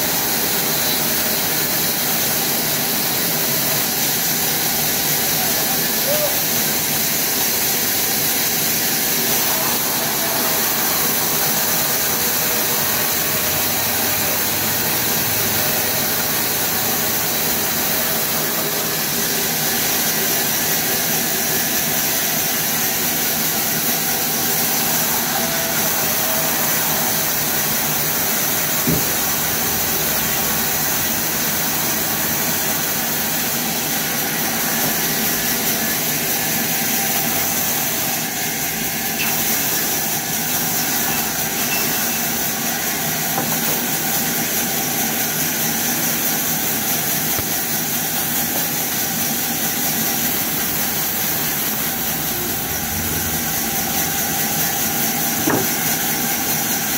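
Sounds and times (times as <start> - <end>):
band saw machinery running: 0.0 - 56.9.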